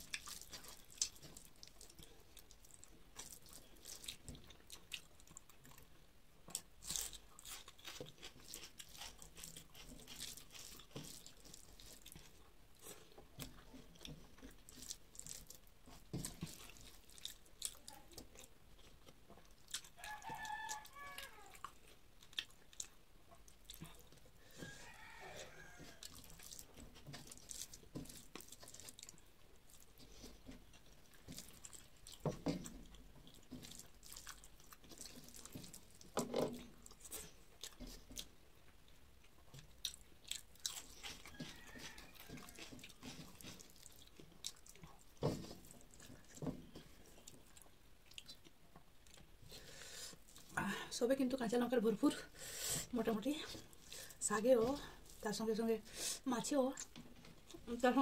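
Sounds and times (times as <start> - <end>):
person chewing food: 0.0 - 50.9, 52.0 - 57.8.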